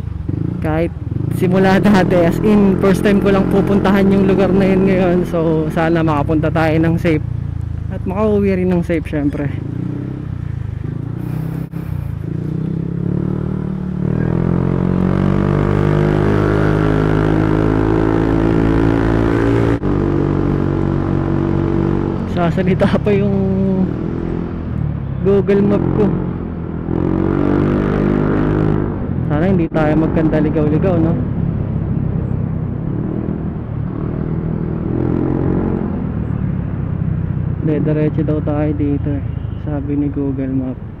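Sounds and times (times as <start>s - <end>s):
road and wind noise: 0.0s - 41.0s.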